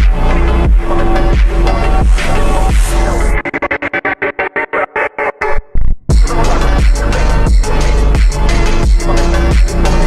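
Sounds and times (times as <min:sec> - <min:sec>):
slowed phonk music: 0:00.0 - 0:10.0.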